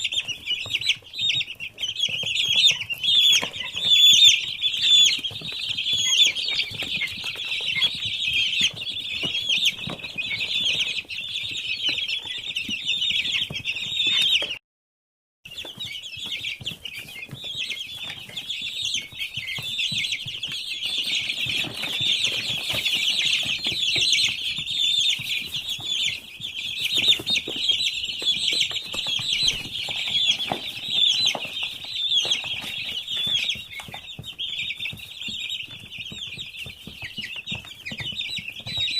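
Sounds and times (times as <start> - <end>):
chicks peeping: 0.0 - 14.6, 15.5 - 38.9.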